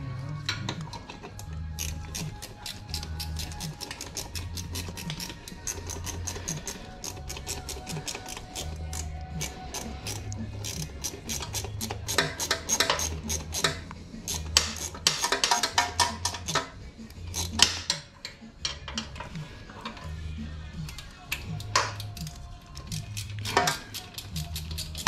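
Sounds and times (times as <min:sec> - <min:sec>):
hand ratchet clicking: 0:00.8 - 0:19.3, 0:20.9 - 0:25.0.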